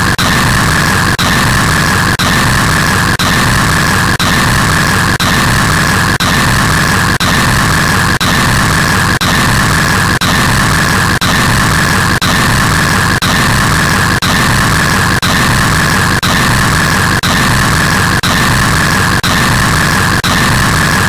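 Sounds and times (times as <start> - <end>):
loud harsh white noise: 0.0 - 21.0.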